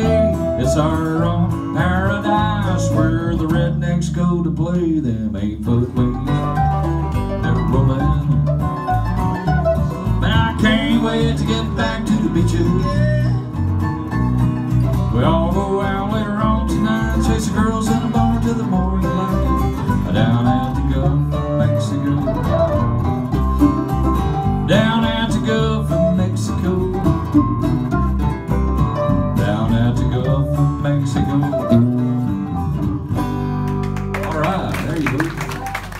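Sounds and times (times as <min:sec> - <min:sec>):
acoustic guitar rhythm: 0:00.0 - 0:35.9
mandolin picked notes: 0:00.0 - 0:35.9.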